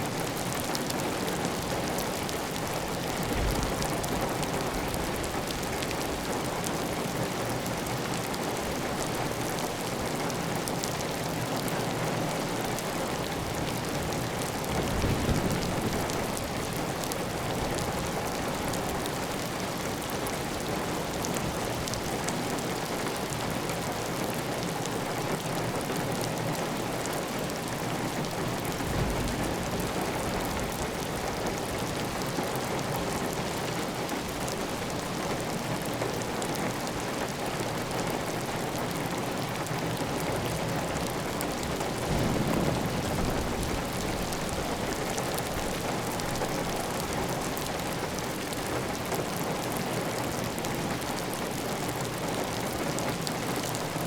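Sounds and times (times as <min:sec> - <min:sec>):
heavy rain on a tile roof: 0:00.0 - 0:54.0.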